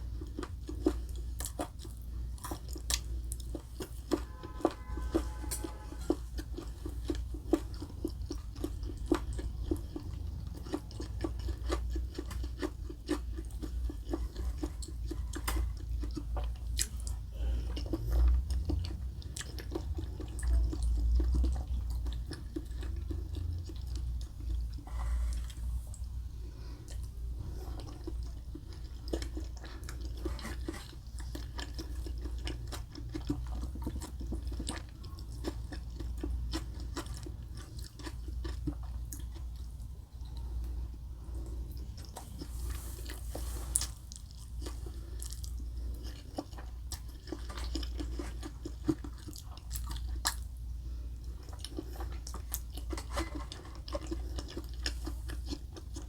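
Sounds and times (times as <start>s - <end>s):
wet chewing and crunching: 0.0s - 56.0s.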